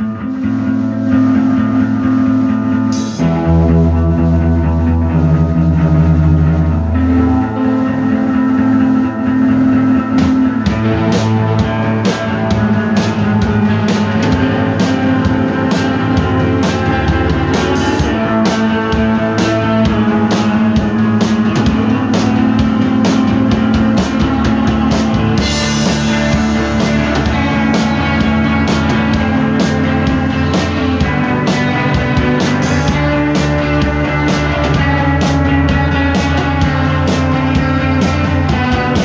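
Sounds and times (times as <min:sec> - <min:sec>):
rock music with guitar and drums: 0:00.0 - 0:39.0.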